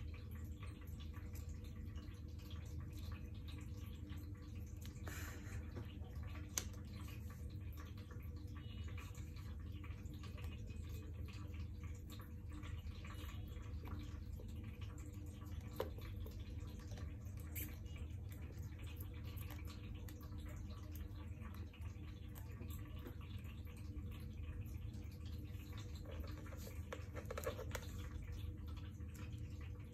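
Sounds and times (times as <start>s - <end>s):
low room hum: 0.0s - 29.9s.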